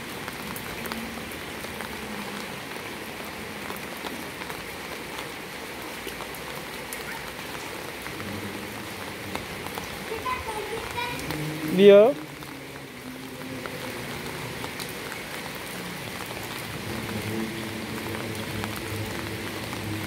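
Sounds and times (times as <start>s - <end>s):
heavy rain on pavement and puddles: 0.0s - 20.0s.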